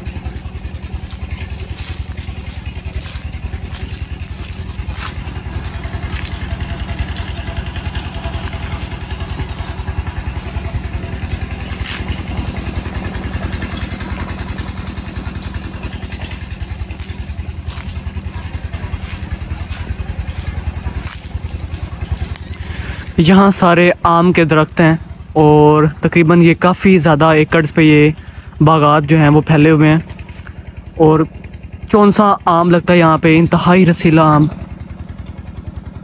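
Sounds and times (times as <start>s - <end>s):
pump engine running: 0.0s - 36.0s.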